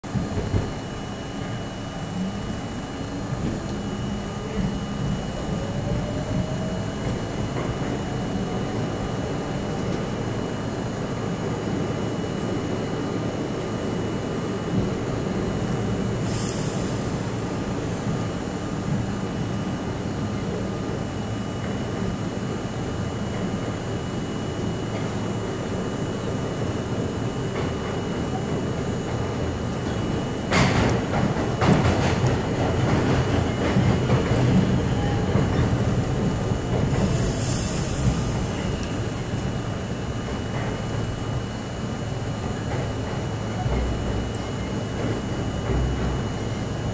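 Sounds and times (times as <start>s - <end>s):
subway train rumbling in tunnel: 0.0s - 46.9s.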